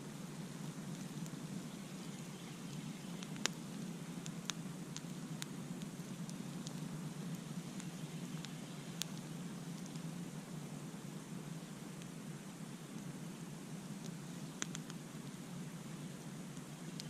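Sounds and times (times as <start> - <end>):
fire crackles and pops: 0.0 - 17.0.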